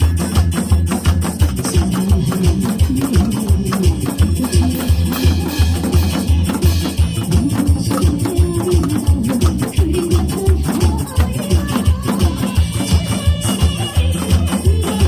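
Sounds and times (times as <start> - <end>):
backing track with drum beat: 0.0 - 15.0
hourglass drum playing: 0.0 - 15.0.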